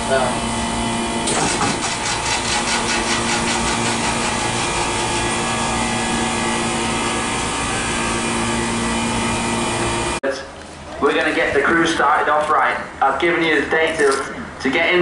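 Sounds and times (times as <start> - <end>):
ice cream machine humming: 0.0 - 13.5.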